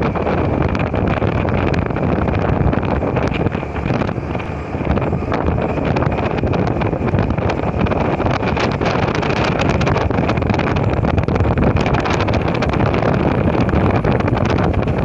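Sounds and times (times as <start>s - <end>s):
motorcycle and road noise: 0.0s - 15.0s
wind buffeting microphone: 0.0s - 15.0s.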